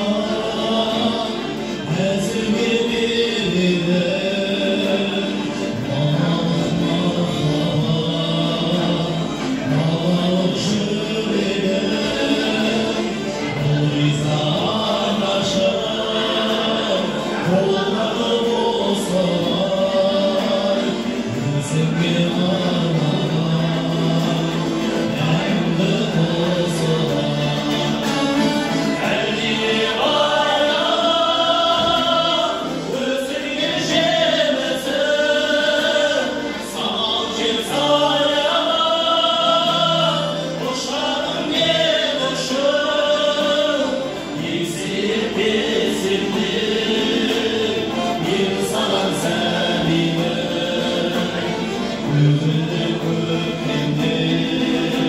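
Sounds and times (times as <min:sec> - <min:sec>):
long-necked lutes playing: 0:00.0 - 0:55.0
men singing together: 0:00.0 - 0:55.0.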